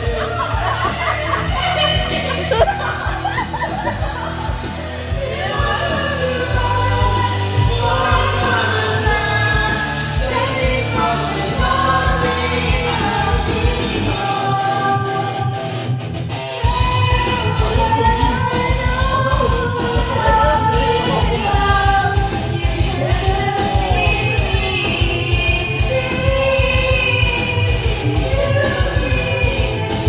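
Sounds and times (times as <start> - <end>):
song with vocal drums and bass: 0.0 - 30.0.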